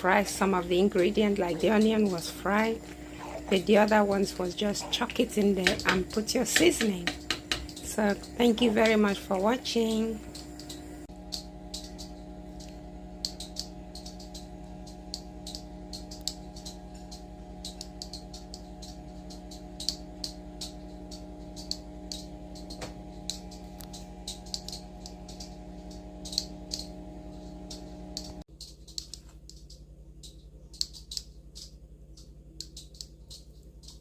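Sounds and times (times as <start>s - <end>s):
steady hum: 0.0s - 34.0s
rapid light clicks: 0.2s - 34.0s.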